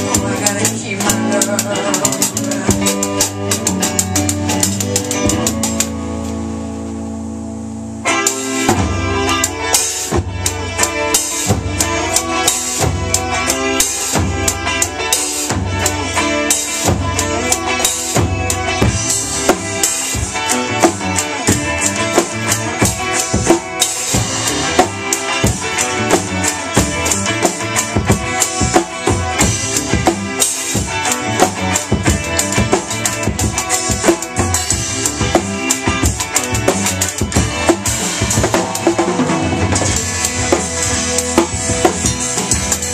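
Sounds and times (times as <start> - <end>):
drum kit playing: 0.0 - 42.9
recorded rock song: 0.0 - 42.9.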